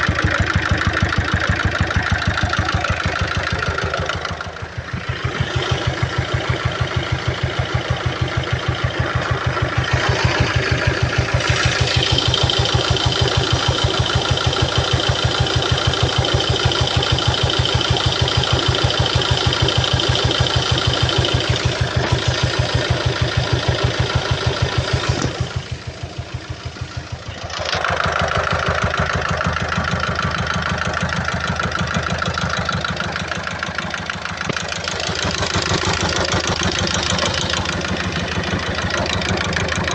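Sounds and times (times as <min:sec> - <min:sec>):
diesel engine idling with knocking: 0:00.0 - 0:39.9.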